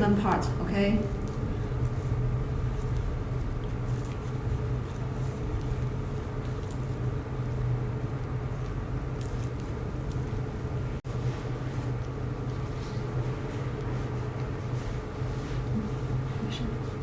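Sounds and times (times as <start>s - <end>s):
machine low hum: 0.0s - 17.0s.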